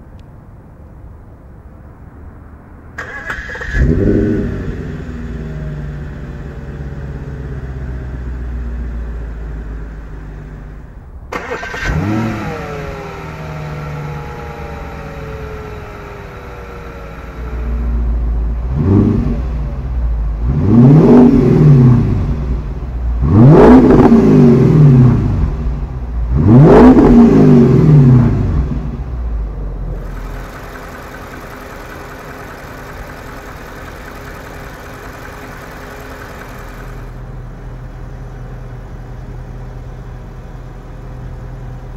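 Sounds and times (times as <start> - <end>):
car engine idling and revving: 2.2 - 41.9.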